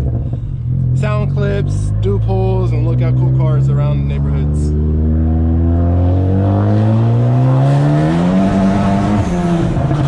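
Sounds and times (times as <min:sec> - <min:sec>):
car engine revving: 0:00.0 - 0:10.0
exhaust crackling: 0:00.0 - 0:10.0.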